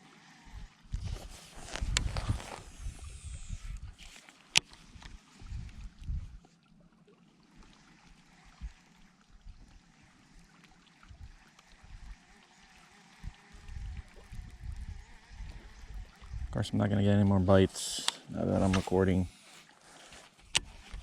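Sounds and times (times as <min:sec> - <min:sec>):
water lapping against kayak hull: 0:00.0 - 0:21.0.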